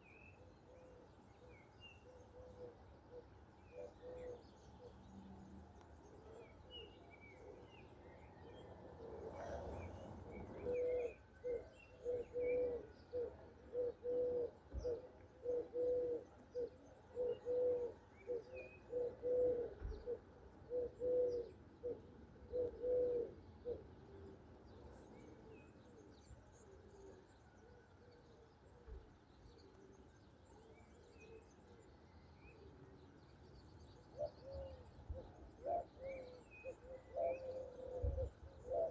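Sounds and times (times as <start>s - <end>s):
small songbirds chirping: 0.0s - 38.9s
dove cooing: 0.7s - 5.0s, 6.2s - 30.0s, 34.2s - 38.9s.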